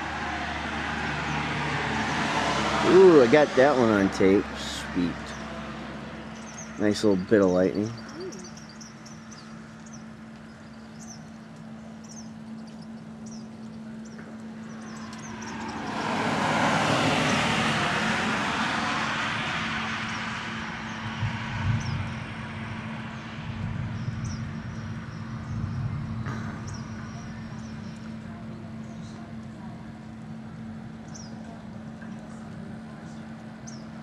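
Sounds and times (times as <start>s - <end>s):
vehicle tyre noise passing: 0.0s - 11.8s, 14.3s - 31.7s
steady low hum: 0.0s - 34.0s
birds chirping: 0.8s - 18.9s, 19.8s - 34.0s.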